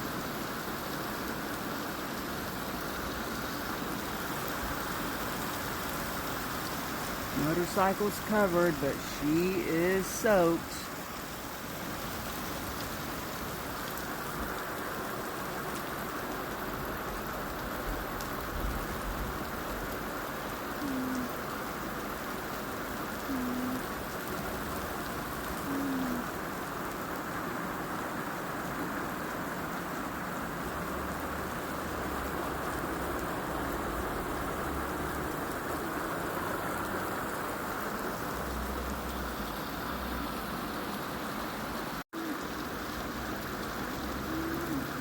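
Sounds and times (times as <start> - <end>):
heavy rain on a tin roof: 0.0 - 45.0.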